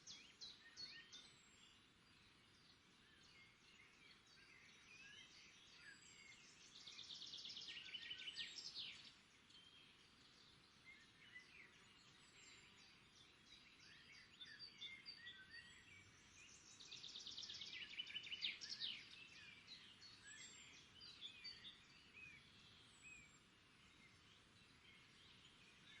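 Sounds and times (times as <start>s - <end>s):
birds singing and chirping: 0.0s - 26.0s.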